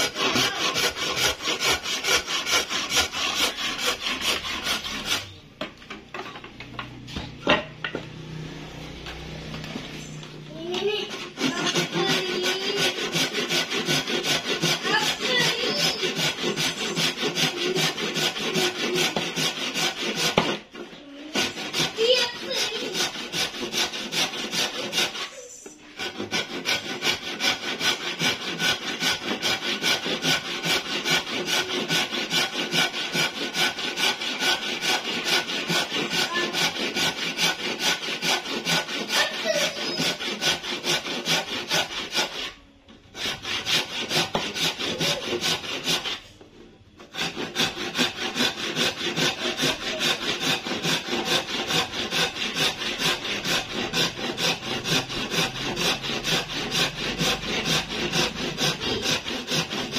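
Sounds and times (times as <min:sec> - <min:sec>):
hand saw cutting hardwood: 0:00.0 - 0:05.4, 0:08.4 - 0:59.9.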